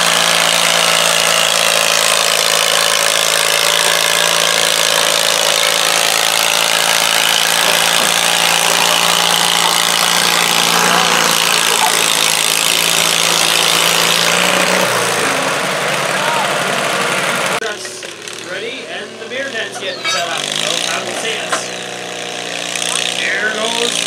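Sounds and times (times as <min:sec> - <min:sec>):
garden tractor engine running: 0:00.0 - 0:24.0.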